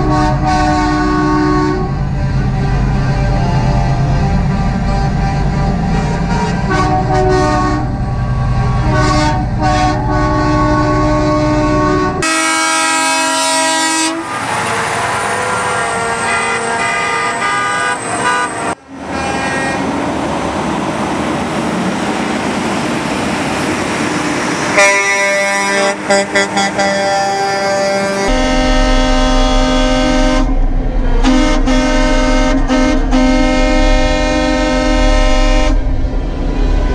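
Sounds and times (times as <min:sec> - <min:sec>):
truck air horns blaring: 0:00.0 - 0:20.0, 0:24.7 - 0:36.1
passing trucks rumbling: 0:00.0 - 0:36.9.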